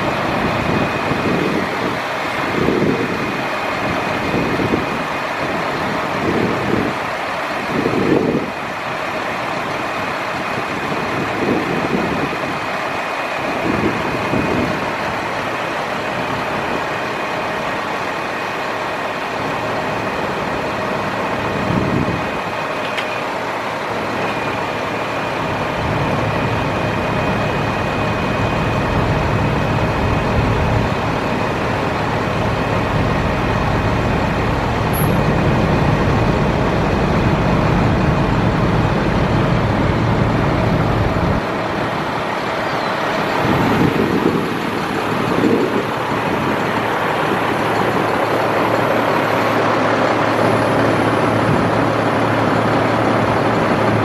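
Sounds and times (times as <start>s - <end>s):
diesel truck engine running: 0.0s - 54.0s
high whine: 0.0s - 54.0s.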